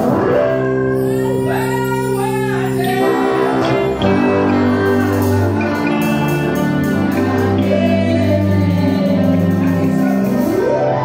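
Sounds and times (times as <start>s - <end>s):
gospel singing: 0.0s - 11.0s
instrumental backing: 0.0s - 11.0s.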